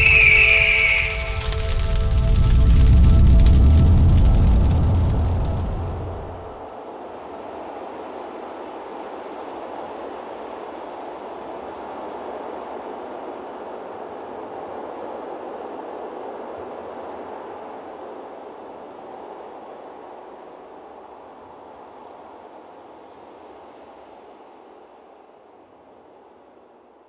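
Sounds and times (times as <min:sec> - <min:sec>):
steady rushing noise: 0:00.0 - 0:26.9.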